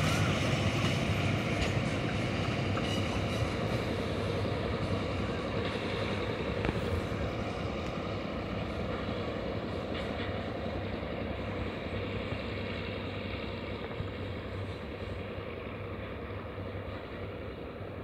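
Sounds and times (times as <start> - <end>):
distant locomotive engine rumble: 0.0 - 18.0
train wheels on rails: 0.0 - 18.0.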